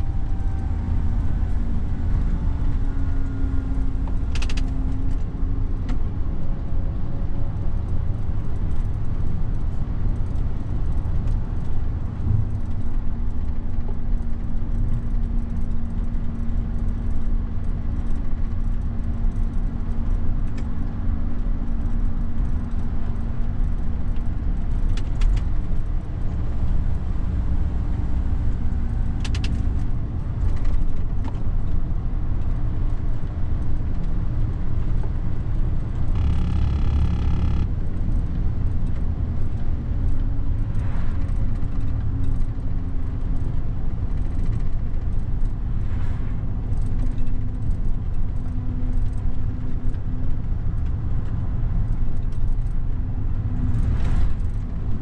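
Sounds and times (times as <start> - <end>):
truck diesel engine drone: 0.0 - 55.0
tyre and road noise: 0.0 - 55.0
cab rattles and clicks: 0.3 - 6.1, 7.7 - 45.8, 46.4 - 55.0.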